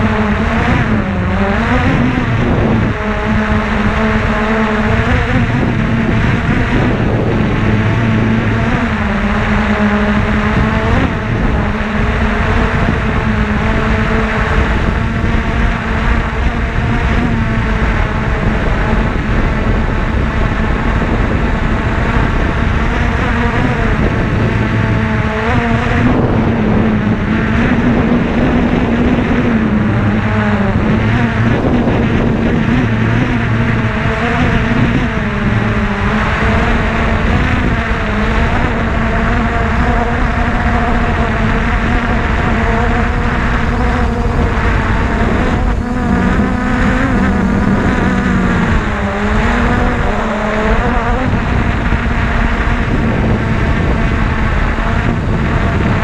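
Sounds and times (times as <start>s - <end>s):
engine running: 0.0s - 56.0s
heavy rumble: 0.0s - 56.0s.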